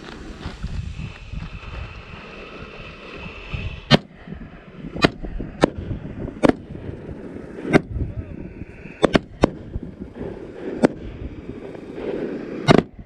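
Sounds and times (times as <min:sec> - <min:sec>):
firework reports: 0:00.0 - 0:13.0.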